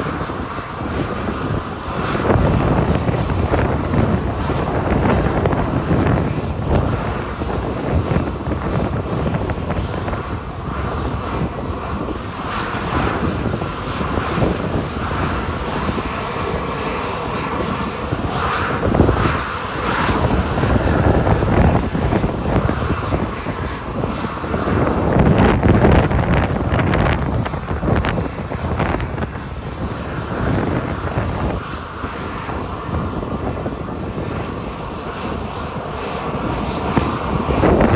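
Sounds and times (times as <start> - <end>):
jet engines running: 0.0 - 37.9
wind buffeting microphone: 0.0 - 37.9.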